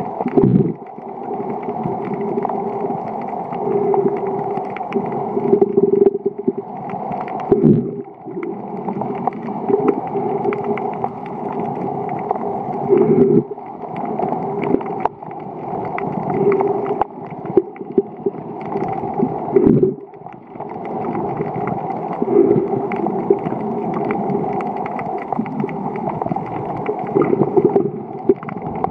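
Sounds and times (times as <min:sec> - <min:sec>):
gurgling bubbles: 0:00.0 - 0:28.9
muffled underwater wash: 0:00.0 - 0:28.9.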